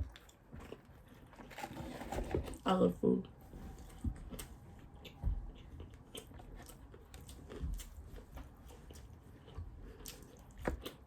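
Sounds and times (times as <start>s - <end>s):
person chewing food: 0.0s - 2.0s, 3.7s - 11.0s.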